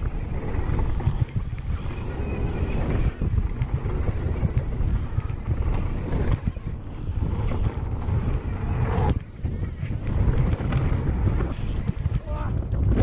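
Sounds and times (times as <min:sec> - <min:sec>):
bike rattling: 0:00.0 - 0:13.0
tyres rumbling on dirt: 0:00.0 - 0:13.0
wind buffeting microphone: 0:00.0 - 0:13.0.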